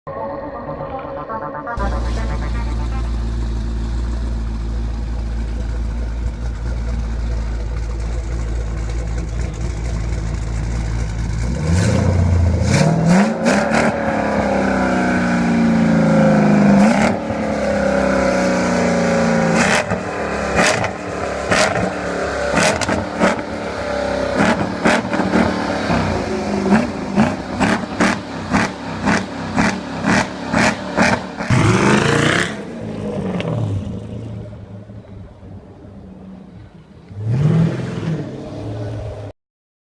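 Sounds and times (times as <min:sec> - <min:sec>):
car engine revving: 0:01.8 - 0:35.1, 0:35.7 - 0:39.3.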